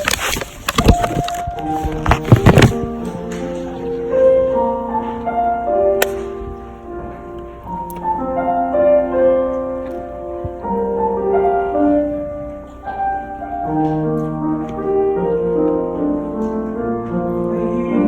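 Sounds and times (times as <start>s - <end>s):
slow piano chords: 0.7s - 18.0s.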